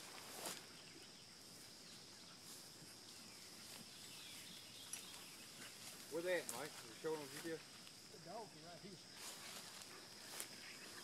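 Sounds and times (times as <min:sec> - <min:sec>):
rustle of brush: 0:00.0 - 0:00.8, 0:01.4 - 0:08.2, 0:09.1 - 0:11.0.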